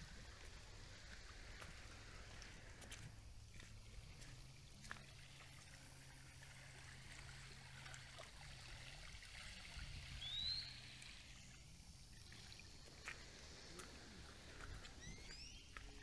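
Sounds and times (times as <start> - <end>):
small waves lapping on rocks: 0.0 - 16.0.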